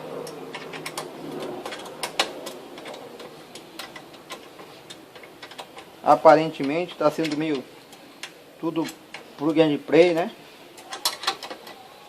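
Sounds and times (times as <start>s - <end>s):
wrench clicking on bolts: 0.2s - 9.4s, 10.1s - 11.8s.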